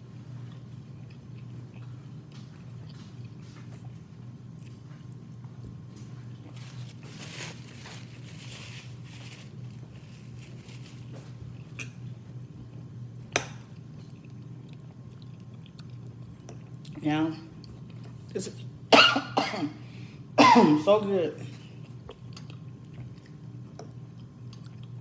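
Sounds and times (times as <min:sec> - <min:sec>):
steady low hum: 0:00.0 - 0:25.0
soft chewing: 0:00.2 - 0:13.0, 0:13.7 - 0:18.7, 0:21.4 - 0:25.0.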